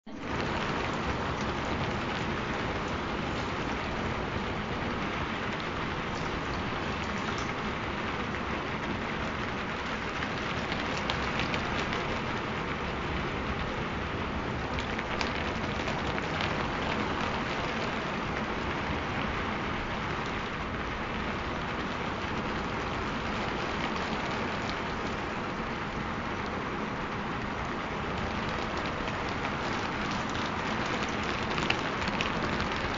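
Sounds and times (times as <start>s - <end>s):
steady rain: 0.1s - 32.9s.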